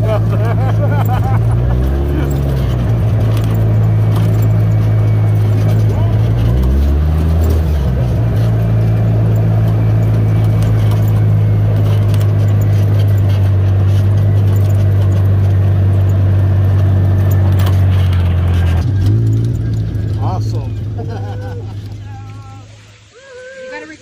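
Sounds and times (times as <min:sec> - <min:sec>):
engine droning steadily: 0:00.0 - 0:23.9.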